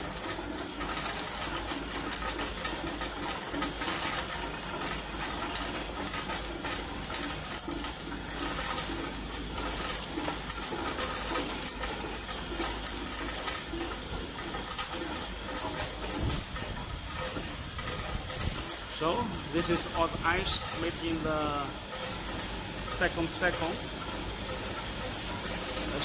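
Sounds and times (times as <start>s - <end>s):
machine humming: 0.0s - 26.0s.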